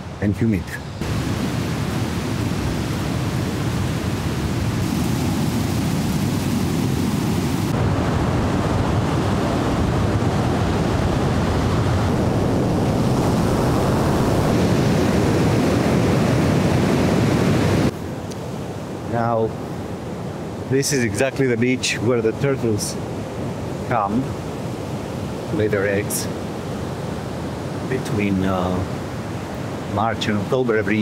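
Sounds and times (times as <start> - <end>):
ocean surf breaking: 1.0 - 31.0.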